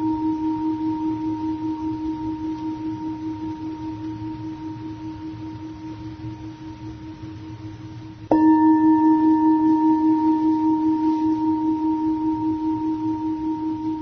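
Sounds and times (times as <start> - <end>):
singing bowl ringing: 0.0 - 14.0.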